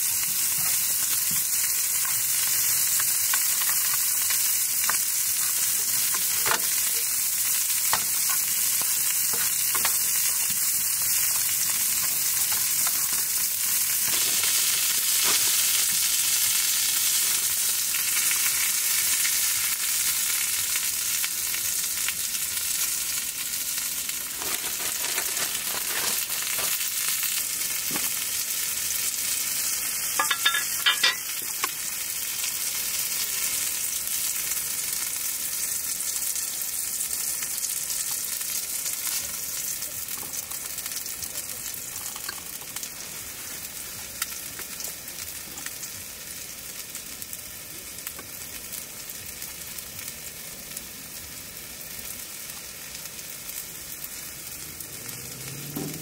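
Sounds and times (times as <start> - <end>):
food sizzling with pops: 0.0 - 56.0.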